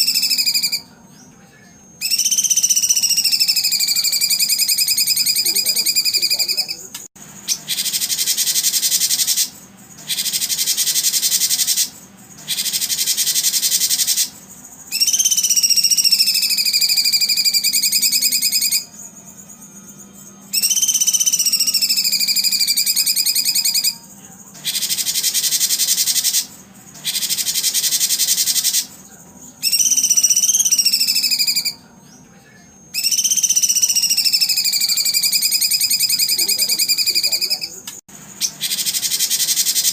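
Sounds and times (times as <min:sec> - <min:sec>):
high-pitched buzzing animal calls: 0:00.0 - 0:01.0, 0:01.7 - 0:39.9.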